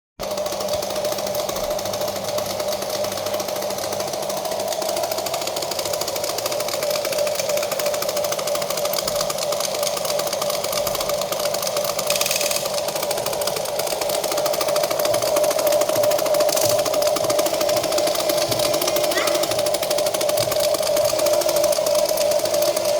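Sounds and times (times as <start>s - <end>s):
toy excavator motors whining: 0.2s - 22.9s.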